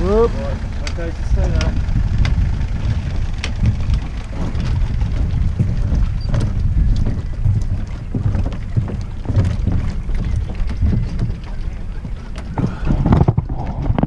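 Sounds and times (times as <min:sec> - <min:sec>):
wind buffeting microphone: 0:00.0 - 0:14.0
light knocks and clicks: 0:00.8 - 0:14.0.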